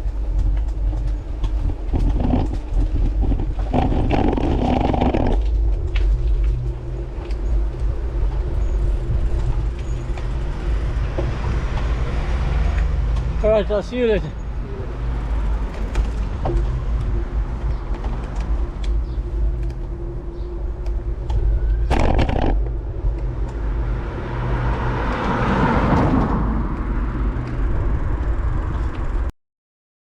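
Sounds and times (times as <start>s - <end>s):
low wind rumble on microphone: 0.0s - 29.3s
road traffic: 0.0s - 29.3s
vehicle passing: 2.0s - 29.3s.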